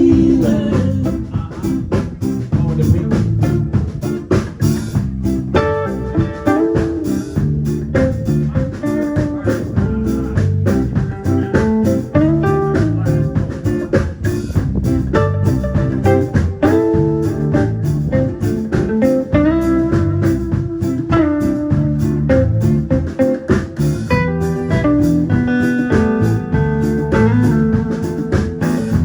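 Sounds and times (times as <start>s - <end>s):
bass: 0.0s - 29.0s
guitar: 0.0s - 29.0s
steady drum beat: 0.0s - 29.0s.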